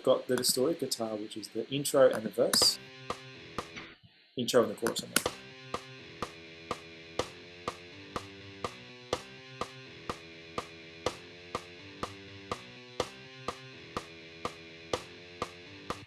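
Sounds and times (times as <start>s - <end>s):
guitar strumming chords: 0.0s - 4.0s, 4.6s - 16.0s.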